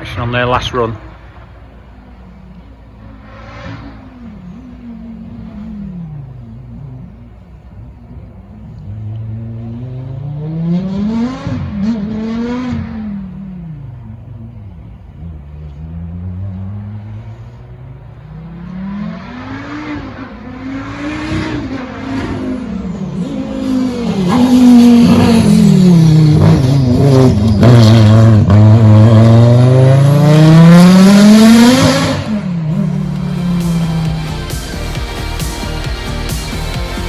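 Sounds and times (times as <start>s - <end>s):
rally car engine revving: 0.0s - 37.0s.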